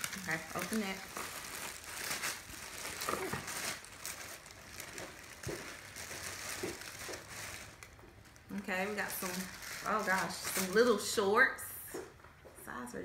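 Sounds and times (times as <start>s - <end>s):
packaging rustling and crinkling: 0.0s - 11.3s.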